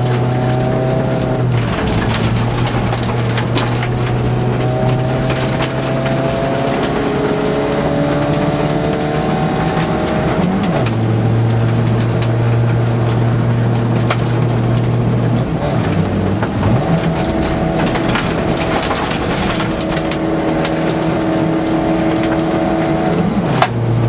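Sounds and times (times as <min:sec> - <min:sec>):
car engine under hard load: 0:00.0 - 0:24.0
gravel pinging against car underside: 0:00.0 - 0:24.0.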